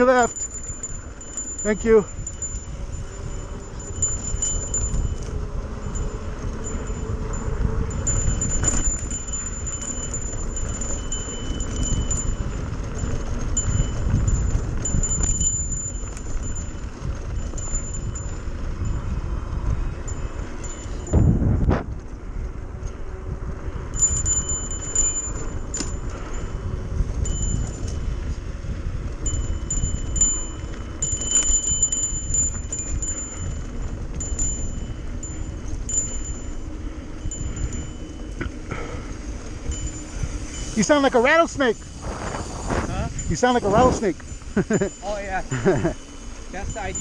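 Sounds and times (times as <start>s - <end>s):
metallic jingling from bike: 0.0s - 47.0s
wind on microphone: 0.0s - 47.0s.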